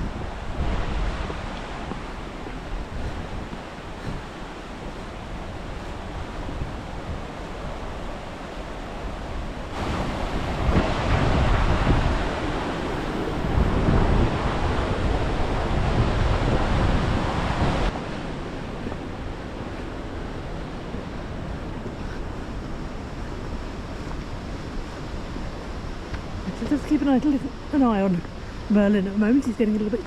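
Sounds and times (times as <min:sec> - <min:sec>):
river rushing through gorge: 0:00.0 - 0:30.0
wind buffeting microphone: 0:00.0 - 0:30.0.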